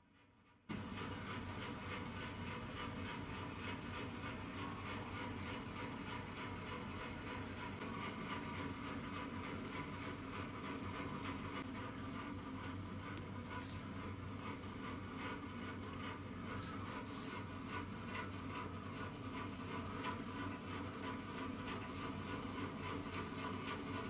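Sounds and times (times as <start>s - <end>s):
motor or fan humming: 0.7s - 24.0s.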